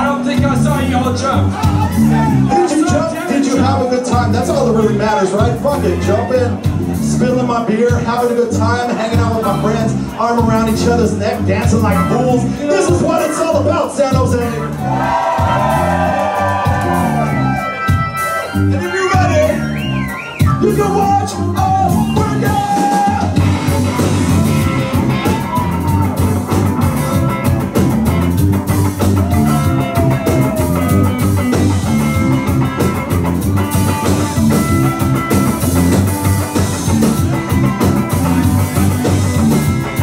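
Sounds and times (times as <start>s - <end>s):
ska band playing live: 0.0s - 40.0s.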